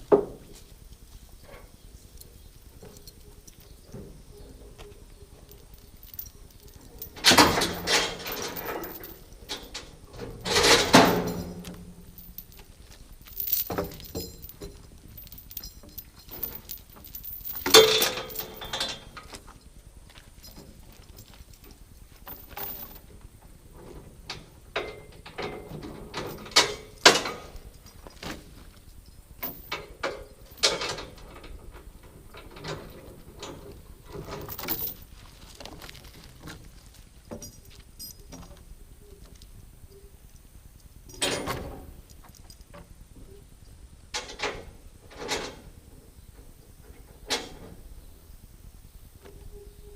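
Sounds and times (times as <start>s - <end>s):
chains rattling and clanking: 1.6s - 39.4s, 40.8s - 42.9s, 44.1s - 45.9s.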